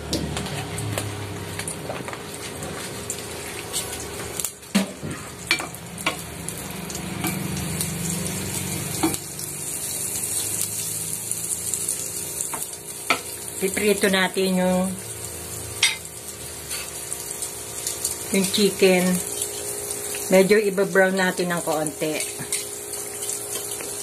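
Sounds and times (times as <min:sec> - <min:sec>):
butter sizzling in a saucepan: 0:00.8 - 0:24.0.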